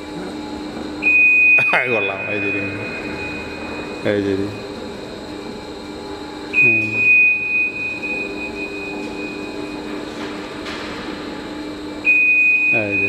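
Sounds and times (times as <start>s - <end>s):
continuous high-pitched tone: 0.0s - 13.0s
machine hum of moving racking: 0.0s - 13.0s.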